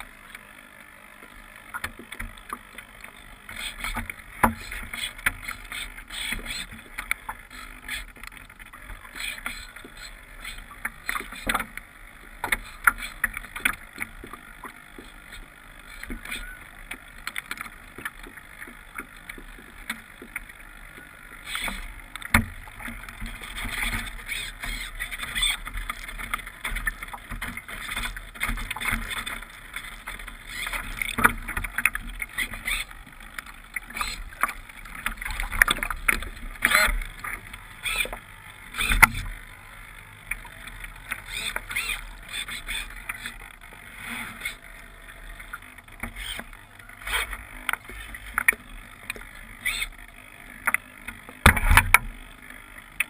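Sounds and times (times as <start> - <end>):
water waves slapping hull: 1.1 - 53.0.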